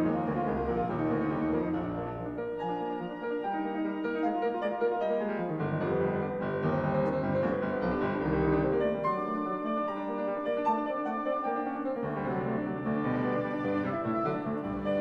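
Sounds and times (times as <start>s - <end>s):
piano-led instrumental music: 0.0s - 15.0s.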